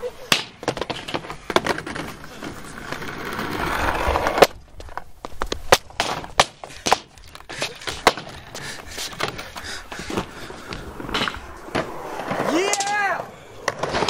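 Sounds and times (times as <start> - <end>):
skateboard clacking on concrete: 0.3 - 14.0.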